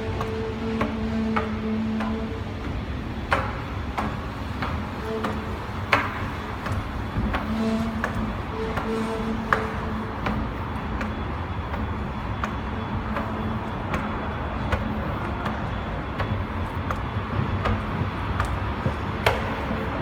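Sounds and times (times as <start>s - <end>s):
escalator rumbling: 0.0s - 20.0s.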